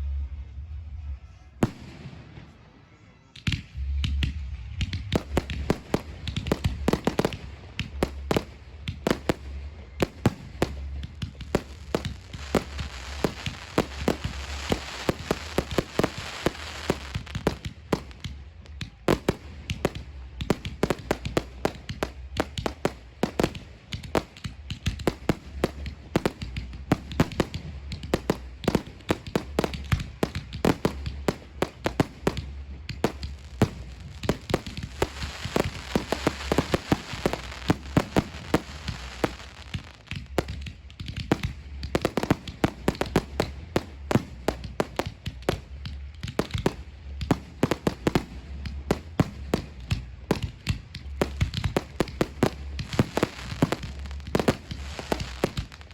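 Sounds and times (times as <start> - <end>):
fireworks bursting: 1.6 - 55.9
fireworks hissing crackle: 4.4 - 55.9.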